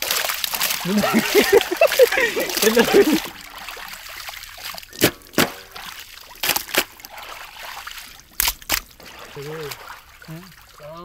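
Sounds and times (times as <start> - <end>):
sharp water splashes: 0.0 - 11.0
water trickling and sloshing: 0.0 - 11.0.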